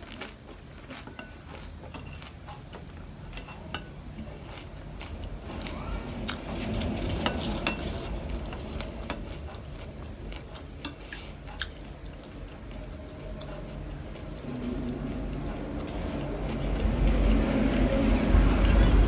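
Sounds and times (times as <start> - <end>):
crunching food: 0.0 - 19.0.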